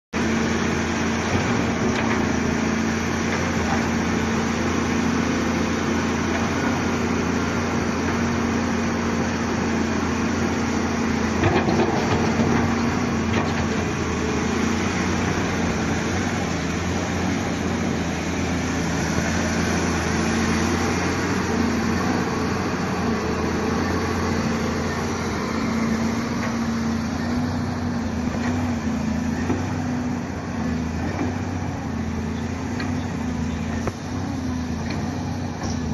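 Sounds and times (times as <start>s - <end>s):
excavator diesel engine running: 0.2s - 35.9s.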